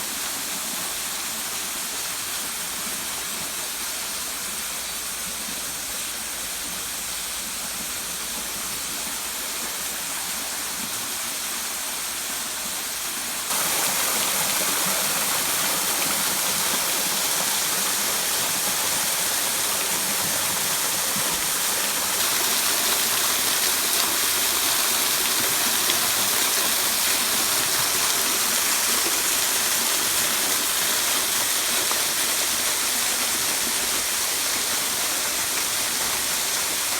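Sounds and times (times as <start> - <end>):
waterfall pouring: 5.3 - 36.9.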